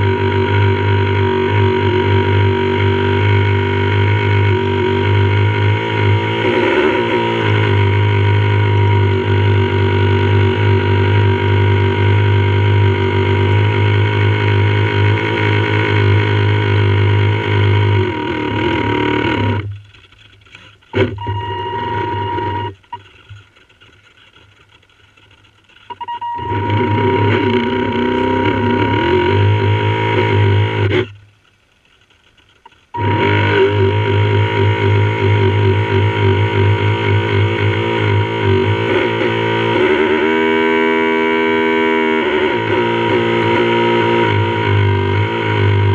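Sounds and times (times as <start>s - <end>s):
model boat motor humming: 0.0s - 45.9s.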